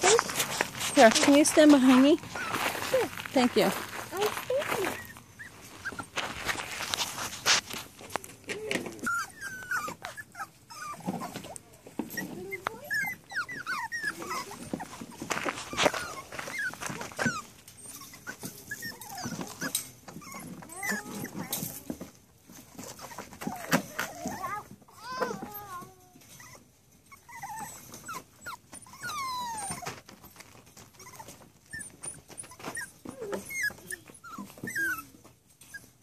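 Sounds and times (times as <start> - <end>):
puppies whining and yipping: 0.0 - 3.2, 4.1 - 36.0.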